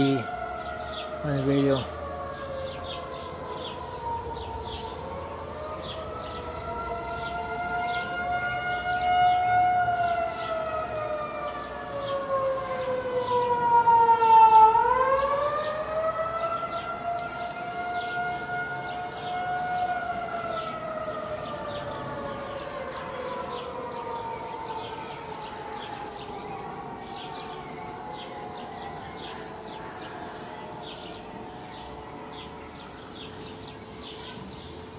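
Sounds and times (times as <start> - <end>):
warning siren wailing: 0.0 - 34.9.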